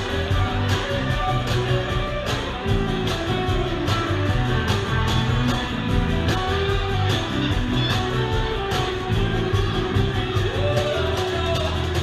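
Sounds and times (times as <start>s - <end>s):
bass: 0.0s - 12.0s
drums: 0.0s - 12.0s
guitar: 0.0s - 12.0s.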